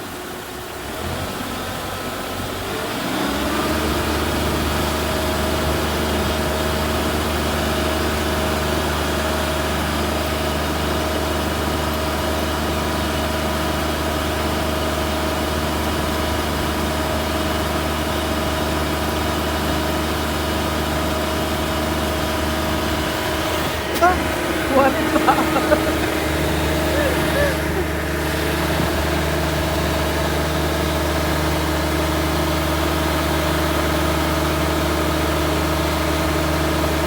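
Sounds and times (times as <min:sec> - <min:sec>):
combine harvester engine: 0:00.0 - 0:37.0.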